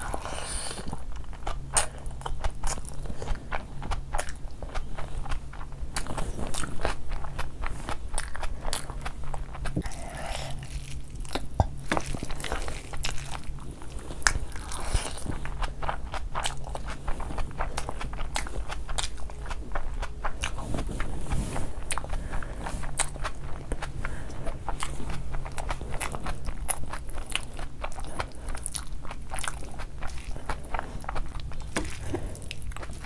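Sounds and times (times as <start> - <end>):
chewing: 0.0 - 33.0.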